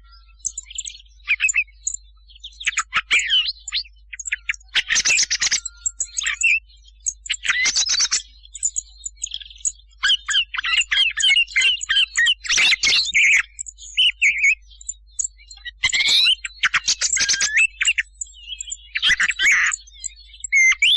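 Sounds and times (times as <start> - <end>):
thrushes chirping and whistling: 0.0 - 20.9.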